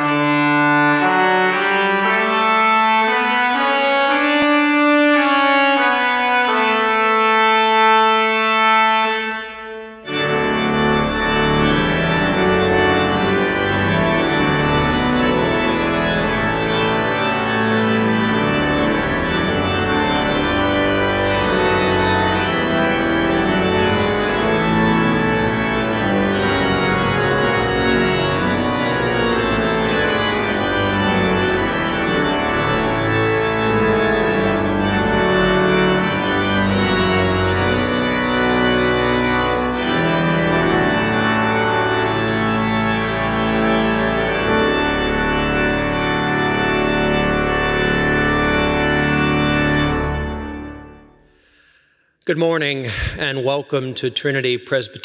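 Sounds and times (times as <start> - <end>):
church organ music: 0.0 - 55.0.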